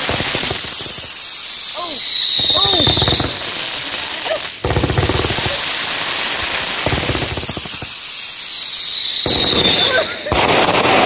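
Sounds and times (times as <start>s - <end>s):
fireworks crackling and popping: 0.0s - 11.0s
fireworks whistling: 0.0s - 11.0s.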